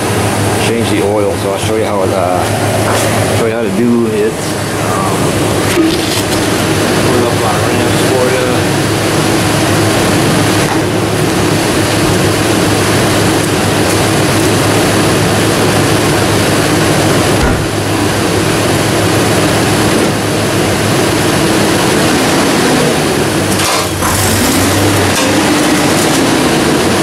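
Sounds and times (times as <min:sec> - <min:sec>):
pickup truck engine idling: 0:00.0 - 0:27.0.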